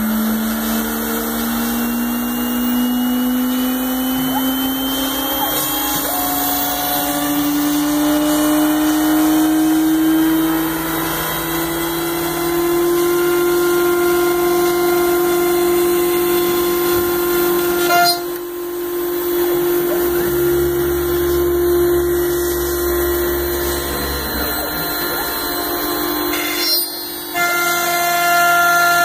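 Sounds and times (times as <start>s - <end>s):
router spindle whine: 0.0s - 29.0s.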